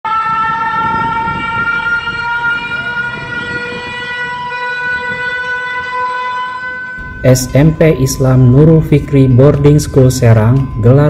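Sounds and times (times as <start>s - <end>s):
emergency alarm siren: 0.0s - 11.0s.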